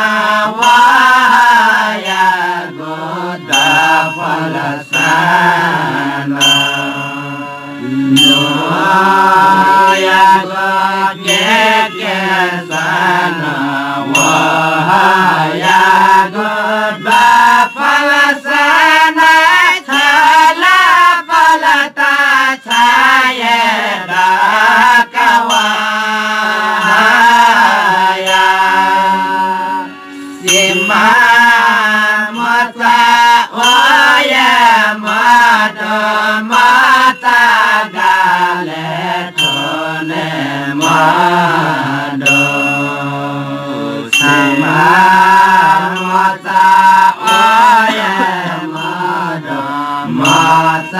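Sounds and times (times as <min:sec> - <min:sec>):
small cymbals striking: 0:00.0 - 0:20.7, 0:22.4 - 0:50.9
group singing in unison: 0:00.0 - 0:50.9
harmonium: 0:00.0 - 0:50.9.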